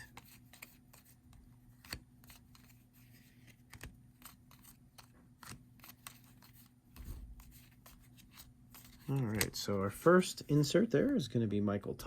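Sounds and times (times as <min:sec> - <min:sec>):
trading cards being flipped: 0:00.0 - 0:11.3.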